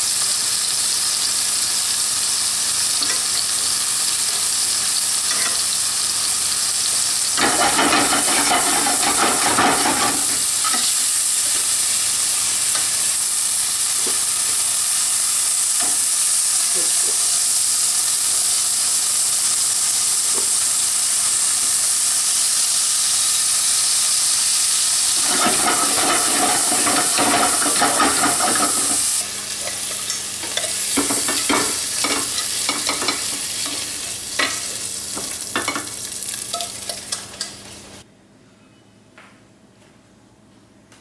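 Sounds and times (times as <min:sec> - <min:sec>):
scallops sizzling in a pot: 0:00.0 - 0:38.0.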